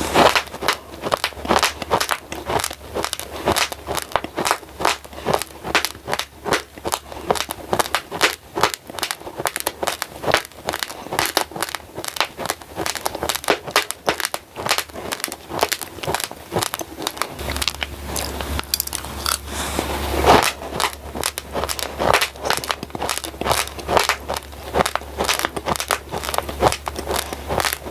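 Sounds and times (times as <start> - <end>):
low hum: 0.0 - 27.9
rice grains crunching when chewed: 0.0 - 27.9.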